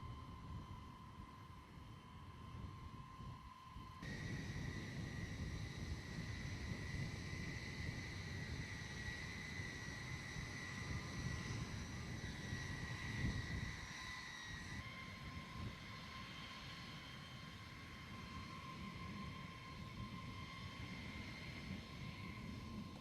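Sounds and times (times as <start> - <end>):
jet engine whine and rumble: 0.0 - 23.0.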